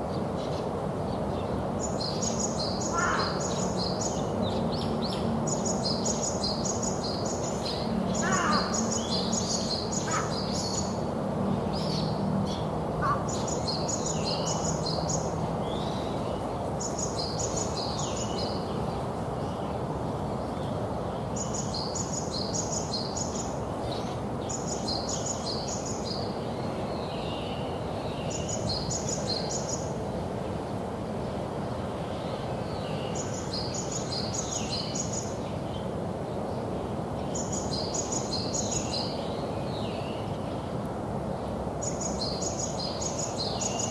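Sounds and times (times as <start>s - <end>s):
outdoor background hiss: 0.0s - 43.9s
songbird singing: 0.0s - 43.9s.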